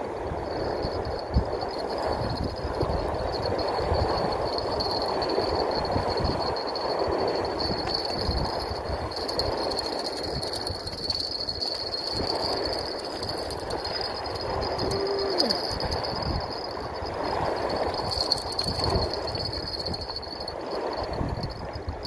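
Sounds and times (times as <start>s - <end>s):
wind buffeting microphone: 0.0s - 22.0s
thin high whine: 0.5s - 21.9s.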